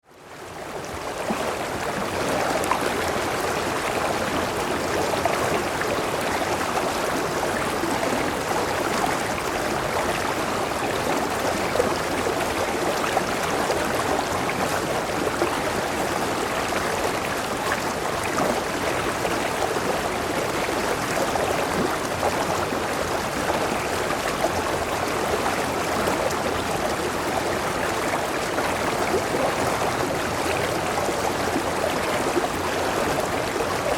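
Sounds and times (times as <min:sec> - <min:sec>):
stream babbling: 0:00.1 - 0:33.9.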